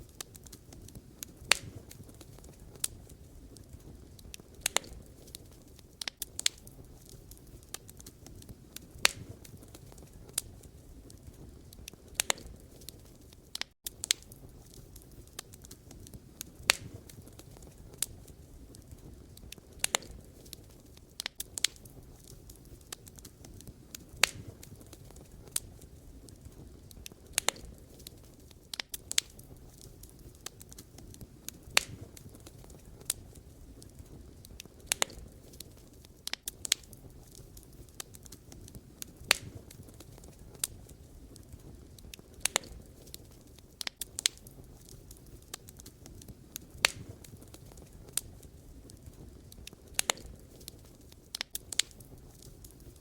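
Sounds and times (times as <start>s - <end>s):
firewood popping and snapping: 0.0s - 53.0s
low rumble of flames: 0.0s - 53.0s.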